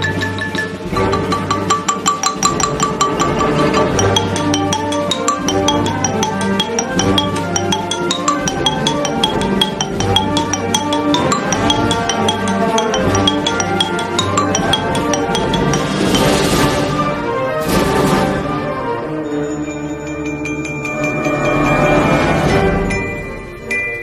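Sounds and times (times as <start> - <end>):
marimba played with mallets: 0.0 - 16.7, 19.6 - 24.0.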